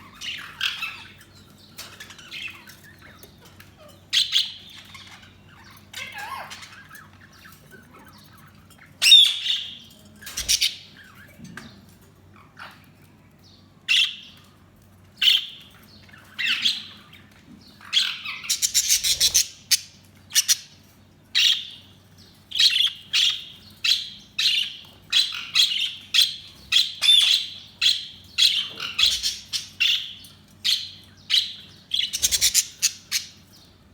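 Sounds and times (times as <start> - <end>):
budgies chirping and squawking: 0.0 - 33.9.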